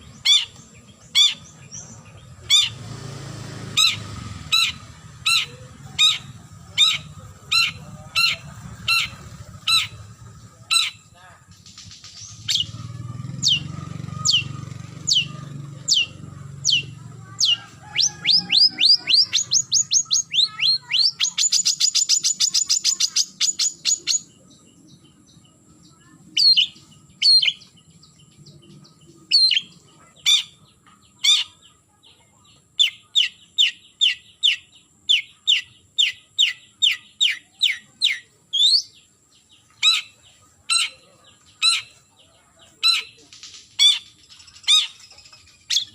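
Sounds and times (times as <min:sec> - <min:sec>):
shrike calling: 0:00.0 - 0:31.9, 0:32.8 - 0:45.9.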